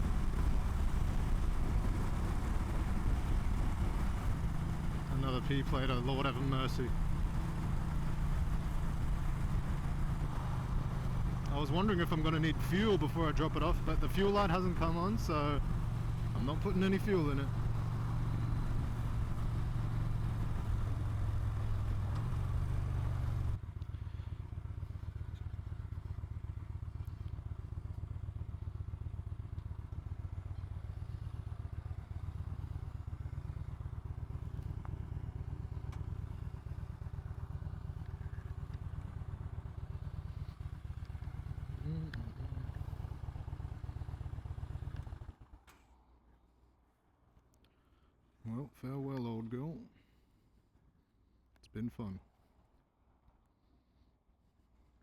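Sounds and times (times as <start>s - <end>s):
motorcycle engine running: 0.0s - 45.6s.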